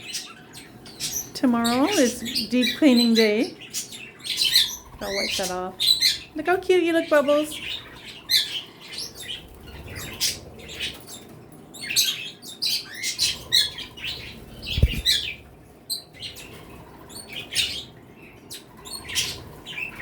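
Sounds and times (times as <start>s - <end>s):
pet birds chirping and calling: 0.0s - 20.0s.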